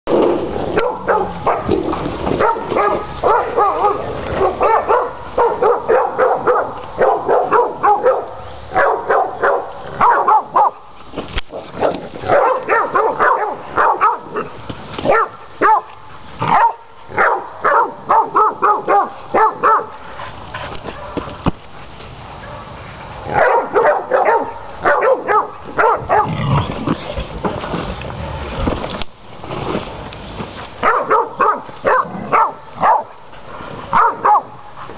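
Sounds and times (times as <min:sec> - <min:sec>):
dogs barking rapidly: 0:00.6 - 0:10.9, 0:11.6 - 0:21.4, 0:22.3 - 0:26.6, 0:30.8 - 0:34.9.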